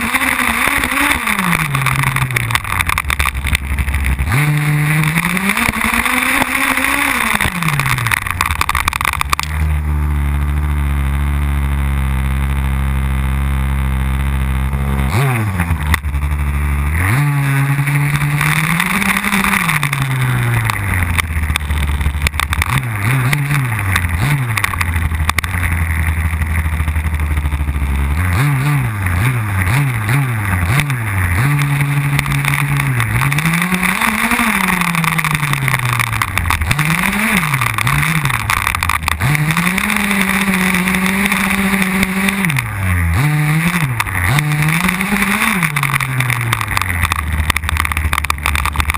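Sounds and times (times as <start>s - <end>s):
model buggy engine revving: 0.0s - 48.9s.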